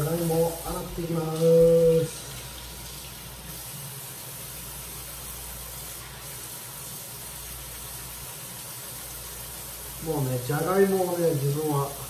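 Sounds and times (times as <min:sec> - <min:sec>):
faucet running into sink: 0:00.0 - 0:12.0.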